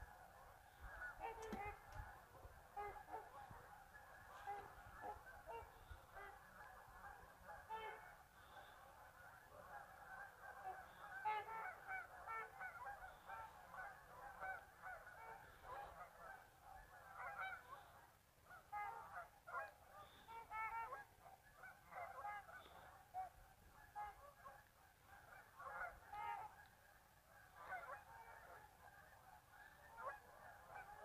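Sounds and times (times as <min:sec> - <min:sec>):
geese honking: 0:00.0 - 0:31.0.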